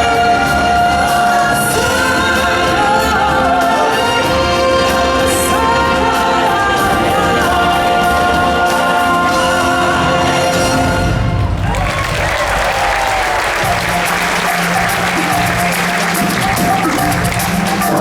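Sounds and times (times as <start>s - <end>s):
choir singing held notes: 0.0s - 18.0s
orchestral backing: 0.0s - 18.0s.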